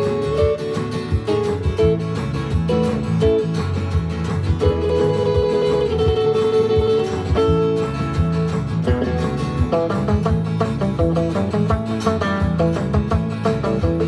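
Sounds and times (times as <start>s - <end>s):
country tune on guitars and keyboard: 0.0s - 14.0s.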